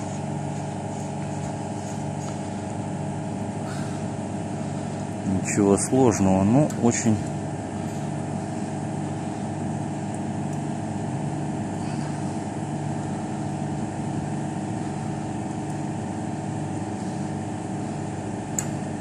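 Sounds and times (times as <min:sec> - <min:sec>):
compressor humming: 0:00.0 - 0:19.0.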